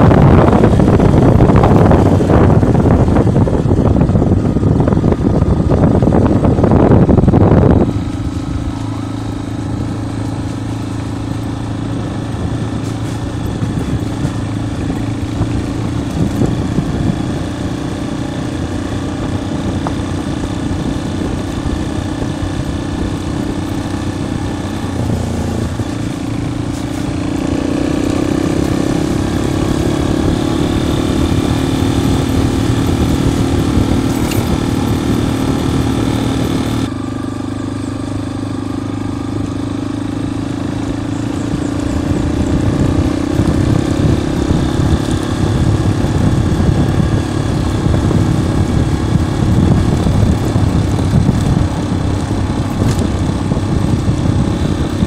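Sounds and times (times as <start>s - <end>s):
wind buffeting microphone: 0.0s - 36.9s, 39.2s - 55.0s
vehicle engine running: 0.0s - 55.0s.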